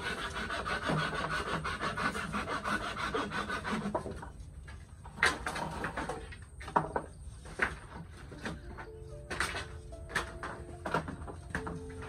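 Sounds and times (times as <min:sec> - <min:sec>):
wooden slats scraping: 0:00.0 - 0:12.0.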